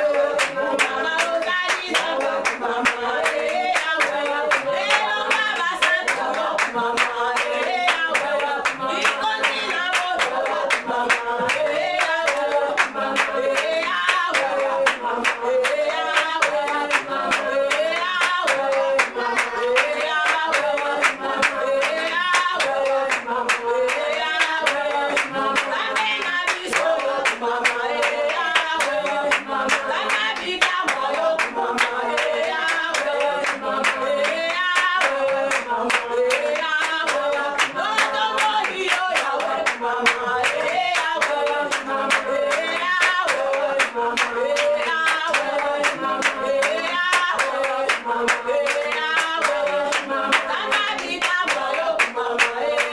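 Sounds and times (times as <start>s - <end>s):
congregation singing: 0.0s - 52.9s
rhythmic hand clapping: 0.0s - 52.9s.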